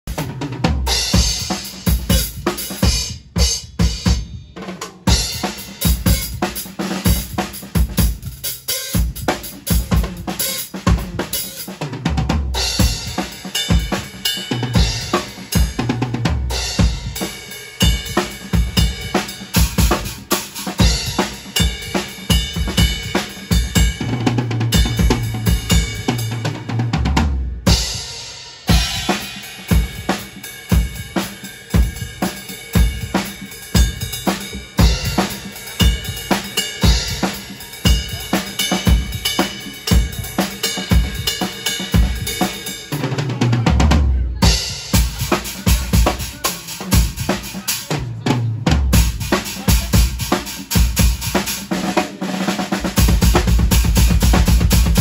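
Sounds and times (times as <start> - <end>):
drum kit playing: 0.0 - 55.0.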